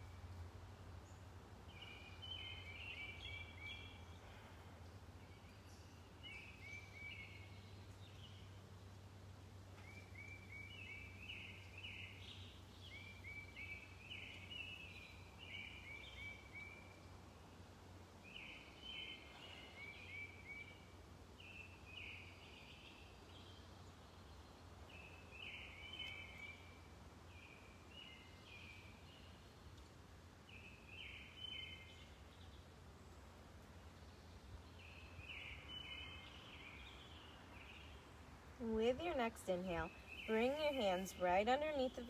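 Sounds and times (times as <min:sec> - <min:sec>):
faint steady low hum: 0:00.0 - 0:42.0
songbird singing: 0:00.0 - 0:42.0.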